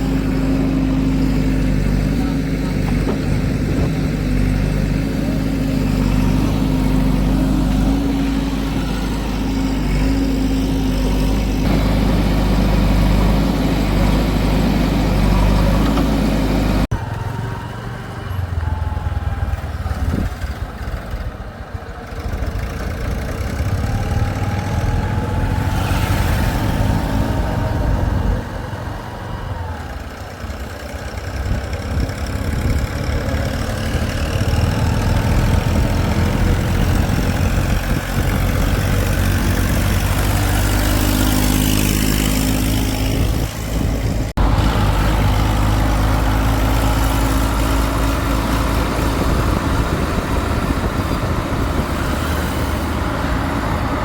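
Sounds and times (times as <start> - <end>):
diesel engines running: 0.0 - 54.0
uneven engine sound: 0.0 - 54.0.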